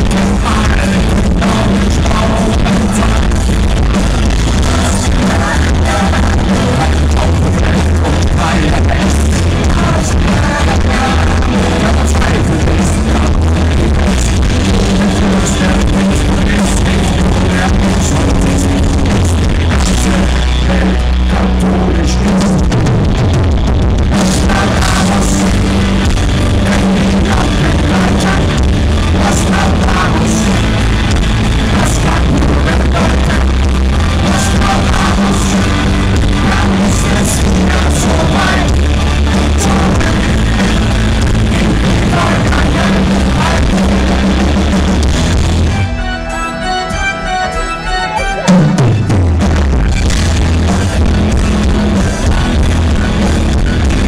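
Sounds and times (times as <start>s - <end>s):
drums: 0.0s - 54.0s
electric guitars: 0.0s - 54.0s
heavy bass: 0.0s - 54.0s.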